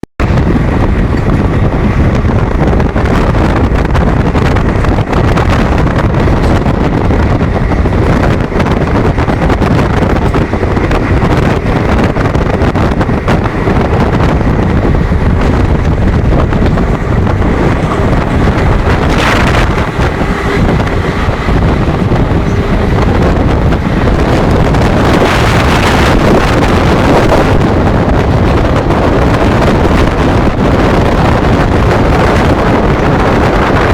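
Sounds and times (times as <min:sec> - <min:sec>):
fast train running noise: 0:00.0 - 0:33.9
wind buffeting microphone: 0:00.2 - 0:33.9.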